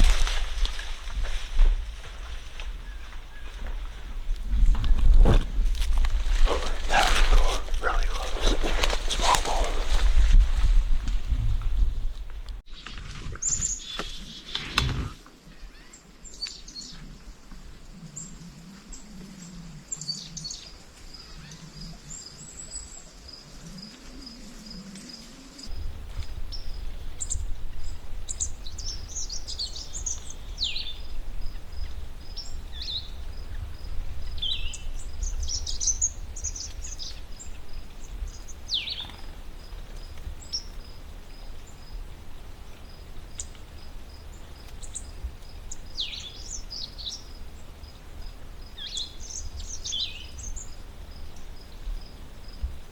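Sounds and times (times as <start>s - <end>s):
songbirds chirping: 2.0s - 10.9s, 12.3s - 52.9s.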